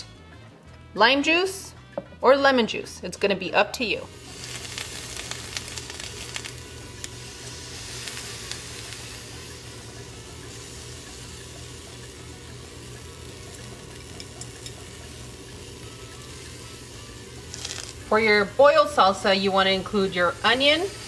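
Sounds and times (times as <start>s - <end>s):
water boiling in a pot: 4.1s - 21.0s.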